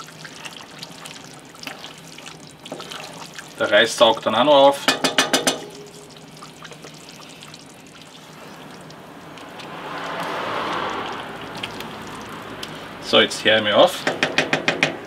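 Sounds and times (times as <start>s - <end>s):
wooden spoon stirring thick stew: 0.0s - 13.0s.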